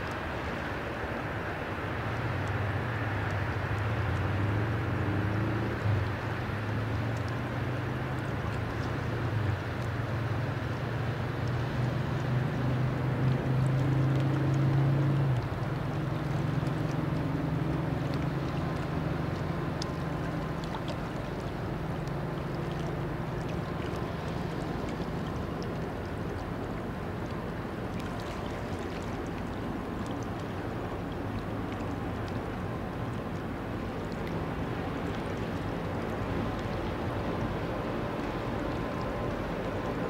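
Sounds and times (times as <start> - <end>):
distant rail and river traffic: 0.0 - 40.0
low engine hum: 0.0 - 40.0.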